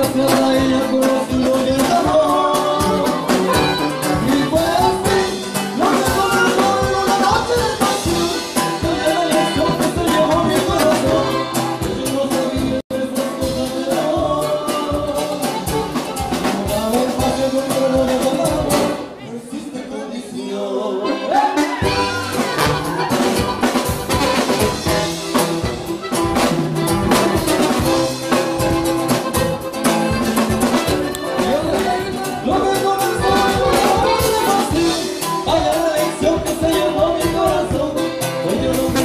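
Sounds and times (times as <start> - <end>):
live band with brass and drums: 0.0 - 19.5, 20.9 - 39.0.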